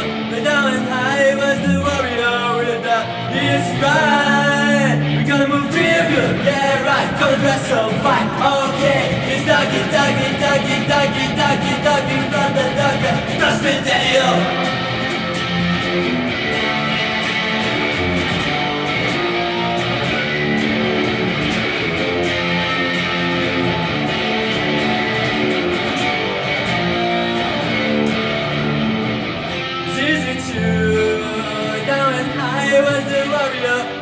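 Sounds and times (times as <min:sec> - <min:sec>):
electric guitar strumming: 0:00.0 - 0:34.0.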